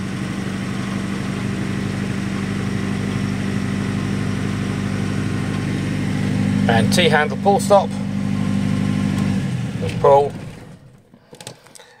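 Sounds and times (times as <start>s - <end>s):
boat engine idling: 0.0s - 11.1s.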